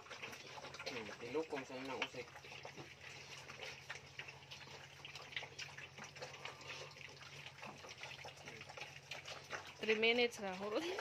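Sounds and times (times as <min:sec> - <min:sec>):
piglets smacking and slurping: 0:00.0 - 0:11.0.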